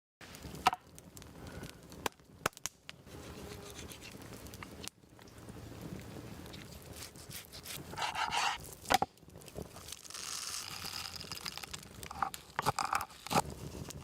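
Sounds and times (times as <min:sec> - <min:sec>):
low rumble of fire: 0:00.2 - 0:03.2, 0:03.9 - 0:08.0, 0:08.6 - 0:14.0
campfire cracks and snaps: 0:00.2 - 0:14.0.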